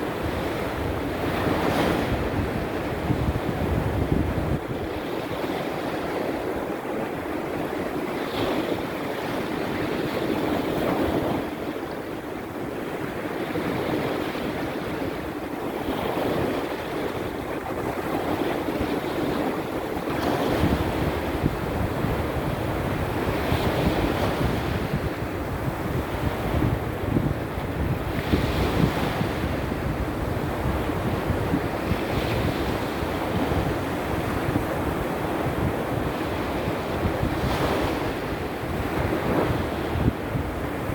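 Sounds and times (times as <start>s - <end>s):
waves breaking on shore: 0.0s - 40.9s
wind rumbling on microphone: 0.0s - 40.9s.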